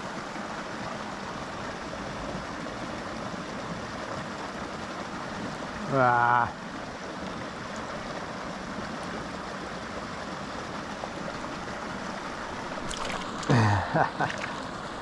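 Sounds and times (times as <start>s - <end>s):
creek flowing over rocks: 0.0s - 15.0s.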